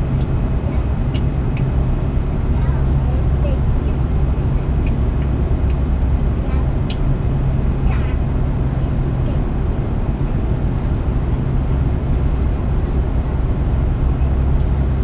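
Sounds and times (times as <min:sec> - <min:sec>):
aircraft cabin engine drone: 0:00.0 - 0:15.0
constant deep hum: 0:00.0 - 0:15.0.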